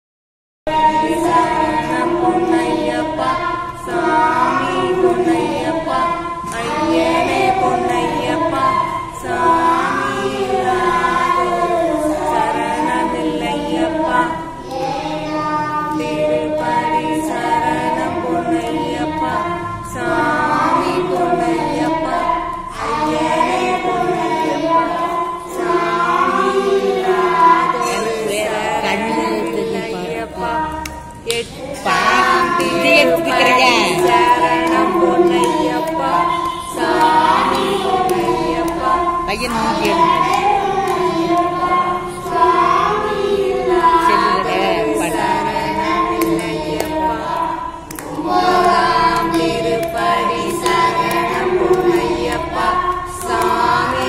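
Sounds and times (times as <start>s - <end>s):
woman and boy singing: 0.7s - 54.0s.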